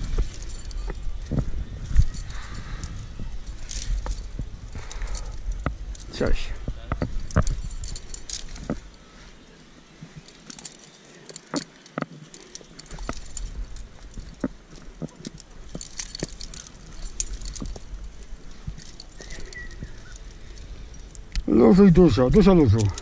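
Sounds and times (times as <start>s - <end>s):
climbing hardware clinking: 0.0s - 23.0s.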